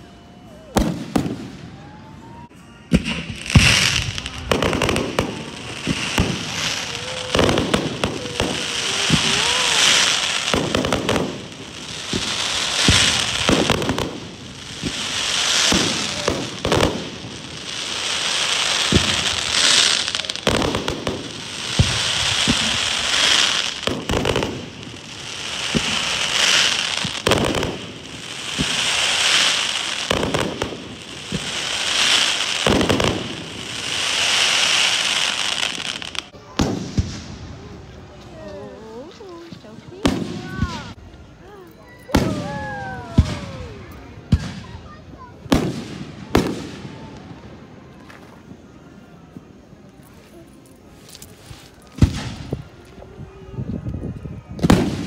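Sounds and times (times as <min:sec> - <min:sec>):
firework crackling: 0:00.6 - 0:55.0
firework bangs: 0:00.7 - 0:38.4, 0:42.1 - 0:48.7, 0:50.9 - 0:55.0.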